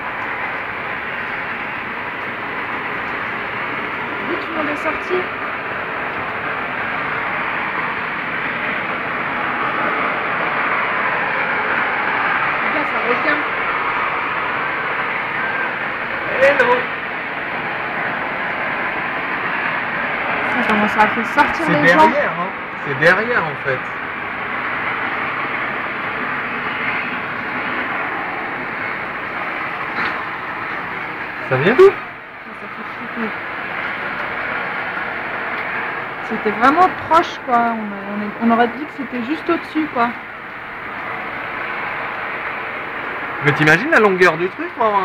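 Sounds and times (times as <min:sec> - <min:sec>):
loud rushing noise: 0:00.0 - 0:45.0
steady roaring noise: 0:00.0 - 0:45.0.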